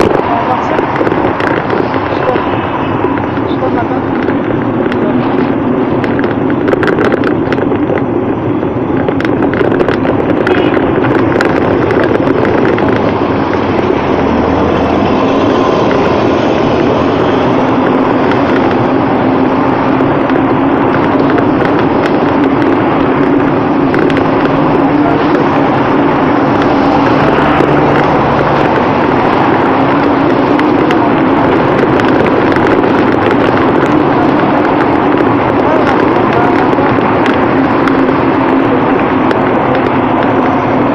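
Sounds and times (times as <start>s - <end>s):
passing cars and buses: 0.0s - 40.9s
wind on microphone: 0.0s - 40.9s.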